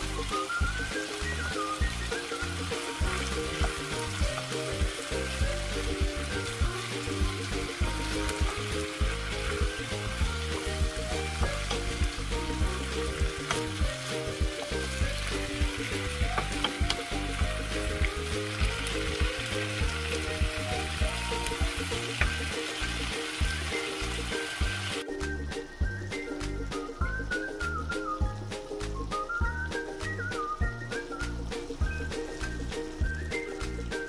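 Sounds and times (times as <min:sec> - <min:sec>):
background music with beat: 0:00.0 - 0:34.0
food sizzling in a pan: 0:00.0 - 0:34.0.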